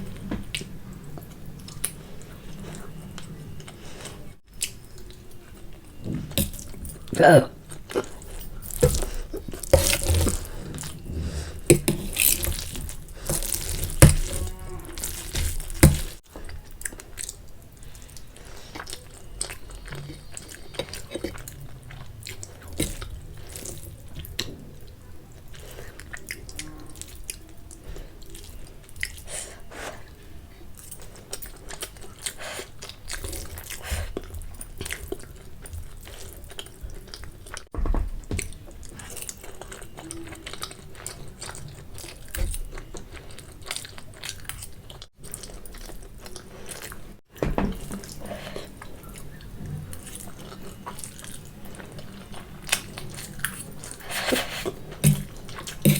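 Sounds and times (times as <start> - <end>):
wet chewing mouth sounds: 0.0 - 37.7, 38.3 - 55.9.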